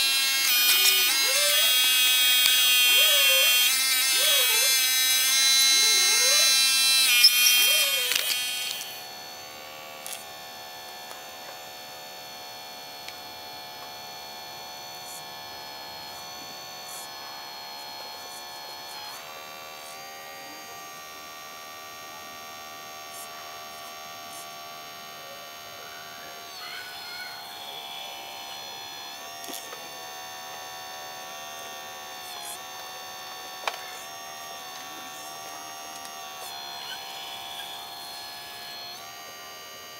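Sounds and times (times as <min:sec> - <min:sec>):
hydraulic pump buzzing whine: 0:00.0 - 0:39.9.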